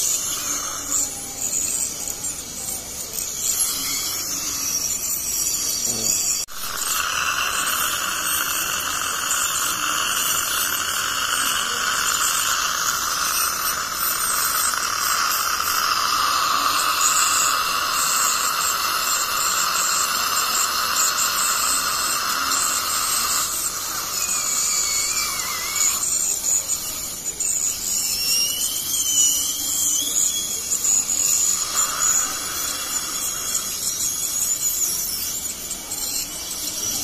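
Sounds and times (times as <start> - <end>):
ultrasonic dental scaler hissing: 0.0 - 37.0.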